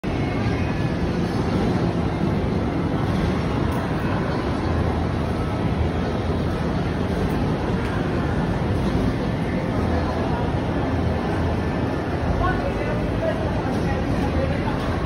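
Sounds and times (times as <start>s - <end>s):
low rumble of indoor hall: 0.0s - 15.0s.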